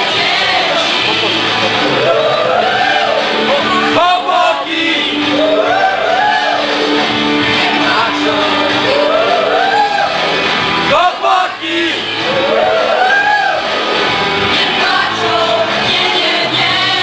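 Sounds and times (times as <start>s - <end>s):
girls singing into microphones: 0.0s - 10.4s, 11.1s - 17.0s
backing music: 0.0s - 17.0s.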